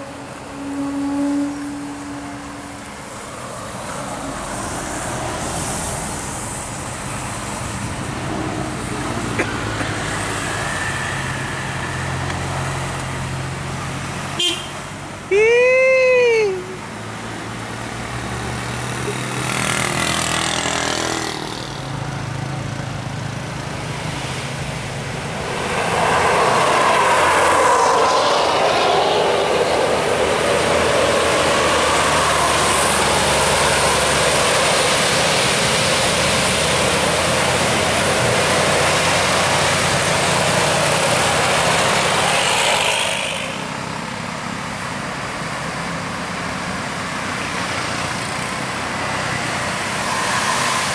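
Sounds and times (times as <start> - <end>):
bus engine hum: 0.0 - 50.9
bus rushing past: 0.0 - 50.9.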